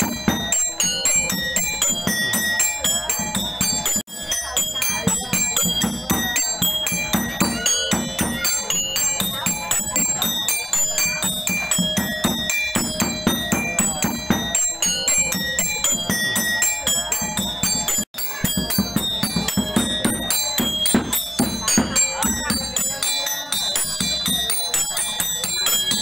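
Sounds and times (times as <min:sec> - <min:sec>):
bright bell-like notes: 0:00.0 - 0:26.0.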